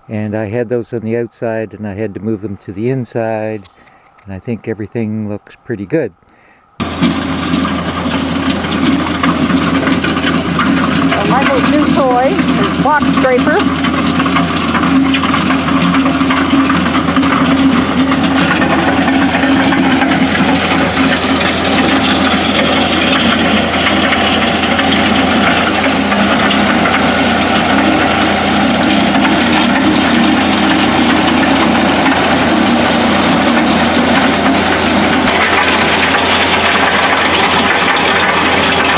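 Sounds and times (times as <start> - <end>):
tractor engine under load: 5.8 - 38.9.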